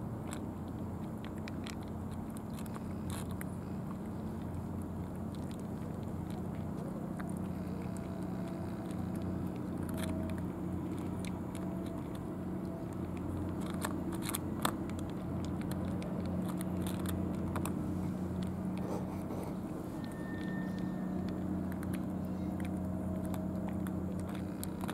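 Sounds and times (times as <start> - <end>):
cats chewing and lapping: 0.0 - 24.9
low mechanical hum: 0.0 - 24.9.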